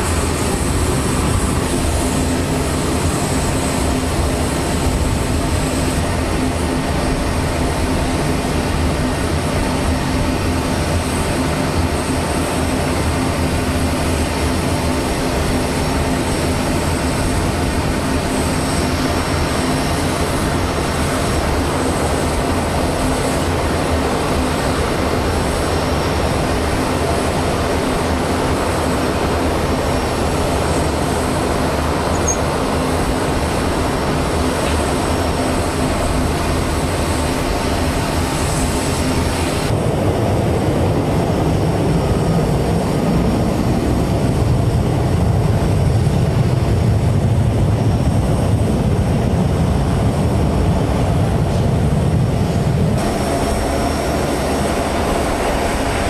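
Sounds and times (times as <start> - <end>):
aircraft engine noise: 0.0 - 56.0.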